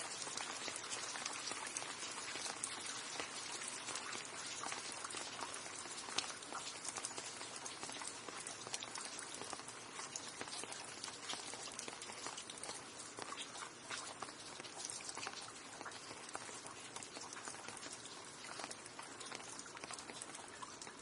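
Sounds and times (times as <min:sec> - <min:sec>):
rain pattering on hard surface: 0:00.0 - 0:21.0.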